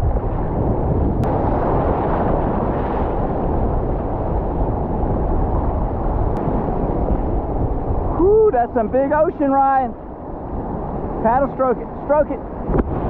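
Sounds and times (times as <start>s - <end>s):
surf rushing and churning: 0.0s - 13.0s.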